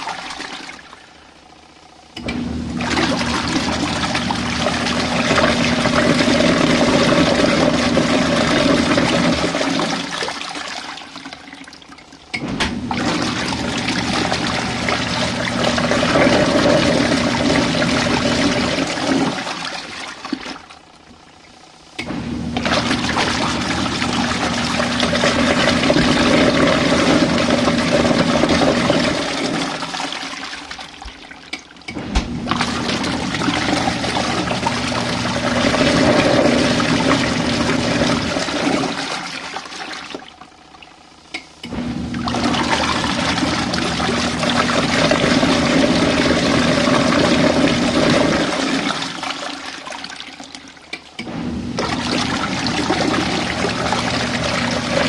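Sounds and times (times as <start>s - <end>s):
motor hum: 0.0s - 55.0s
water churning in washing machine: 0.0s - 55.0s.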